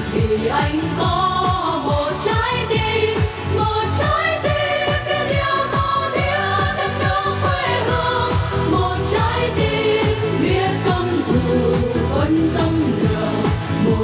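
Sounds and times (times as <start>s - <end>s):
people singing into microphones: 0.0s - 14.0s
pop backing track with drum beat: 0.0s - 14.0s.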